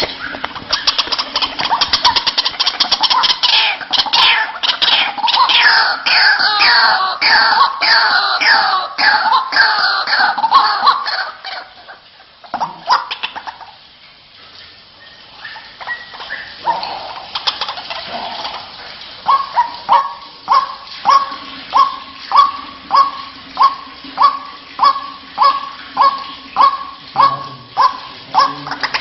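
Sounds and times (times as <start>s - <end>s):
waterhen harsh repeated calls: 0.0s - 29.0s.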